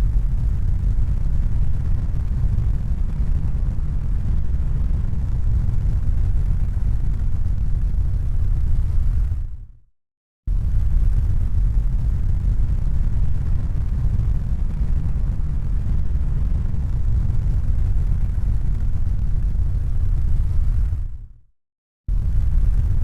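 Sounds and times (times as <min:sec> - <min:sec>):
deep rumble: 0:00.0 - 0:09.8, 0:10.5 - 0:21.4, 0:22.1 - 0:23.0.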